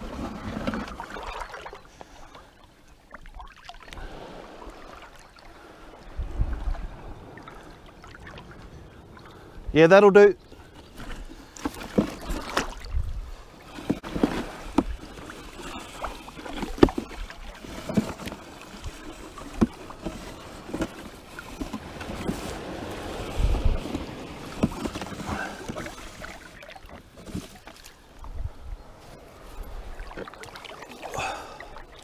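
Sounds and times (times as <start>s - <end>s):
shallow water sloshing: 0.0s - 9.7s, 10.4s - 32.0s.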